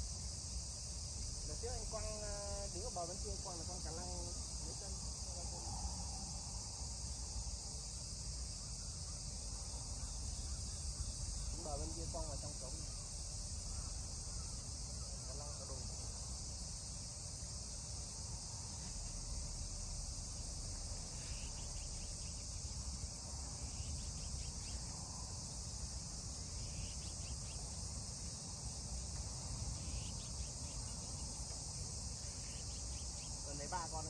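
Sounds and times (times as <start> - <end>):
insects chirping: 0.0 - 34.0.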